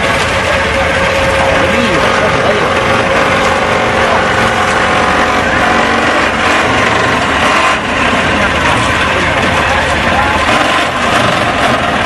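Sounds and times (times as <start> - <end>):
diesel pump engine running: 0.0 - 12.0.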